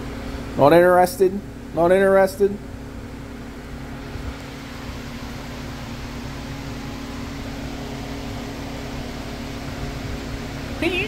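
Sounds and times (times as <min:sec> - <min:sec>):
mechanical room hum: 0:00.0 - 0:11.0.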